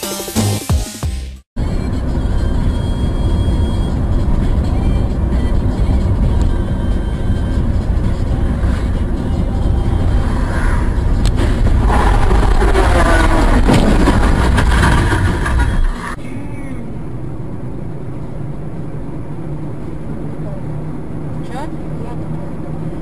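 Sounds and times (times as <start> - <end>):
car road and engine noise: 1.6 - 23.0.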